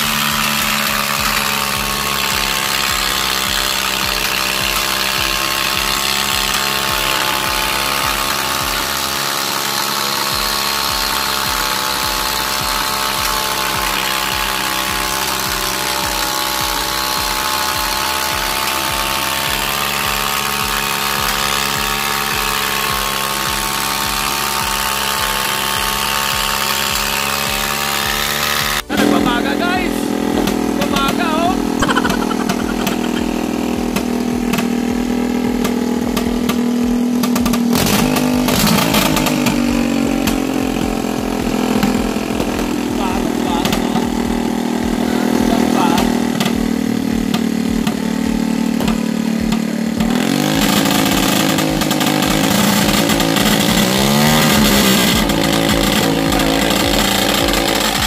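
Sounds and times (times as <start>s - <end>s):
motorcycle engine running steadily: 0.0s - 58.0s.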